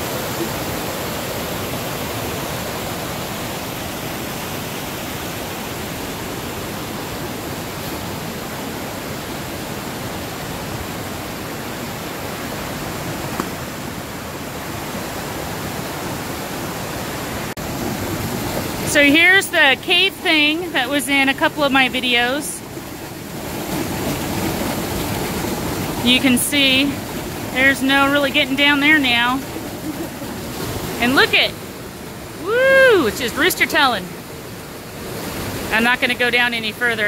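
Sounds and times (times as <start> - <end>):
water rushing down a cascade: 0.0 - 37.0.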